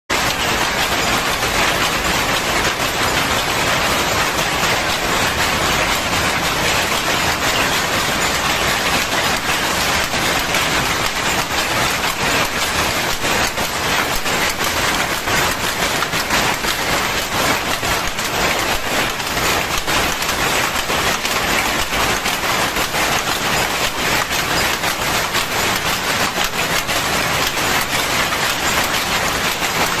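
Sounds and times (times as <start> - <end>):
weaving looms clattering: 0.1 - 30.0.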